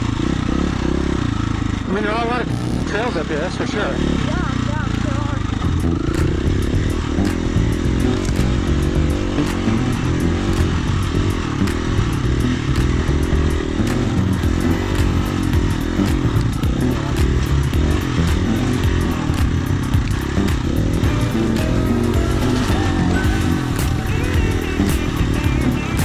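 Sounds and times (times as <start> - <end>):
dirt bike engine: 0.0 - 26.0.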